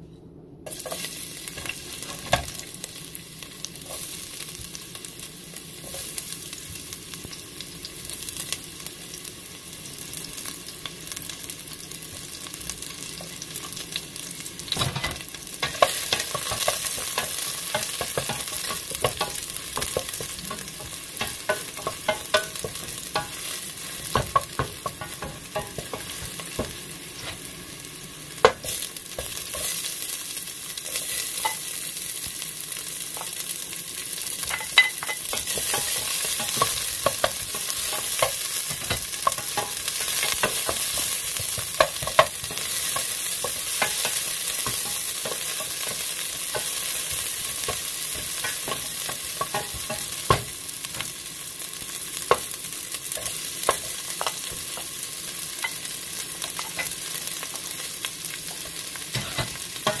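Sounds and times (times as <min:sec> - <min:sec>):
garlic and onion sizzling in a pot: 0:00.6 - 1:00.0.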